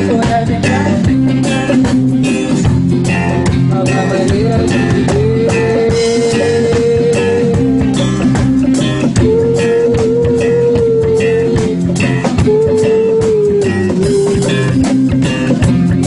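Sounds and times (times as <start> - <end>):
drum kit beat: 0.0 - 16.0
guitar: 0.0 - 16.0.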